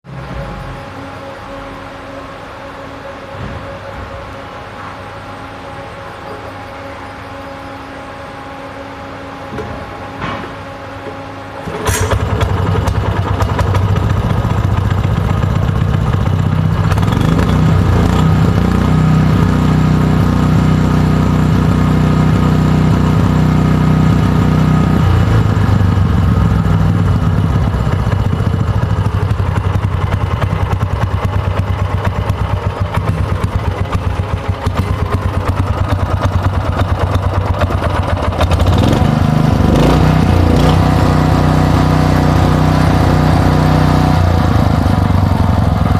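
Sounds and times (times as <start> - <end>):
gasoline engine running: 6.5 - 45.9.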